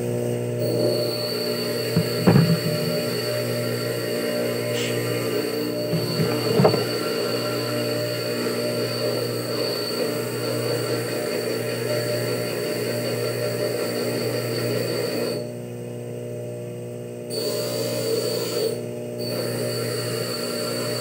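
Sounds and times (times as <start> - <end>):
small electric motor humming: 0.0 - 15.6, 17.3 - 21.0.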